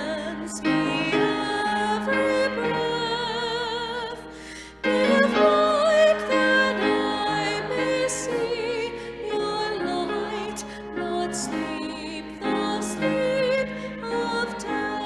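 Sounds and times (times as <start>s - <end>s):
grand piano: 0.0s - 15.0s
woman singing a hymn: 0.0s - 15.0s.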